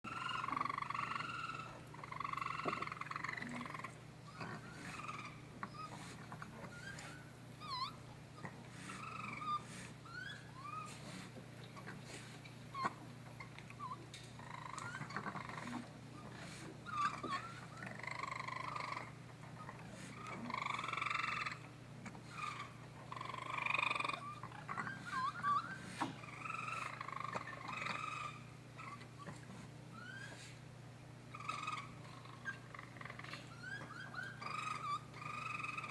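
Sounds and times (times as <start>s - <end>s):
baby raccoons churring: 0.1s - 30.7s, 31.3s - 35.9s.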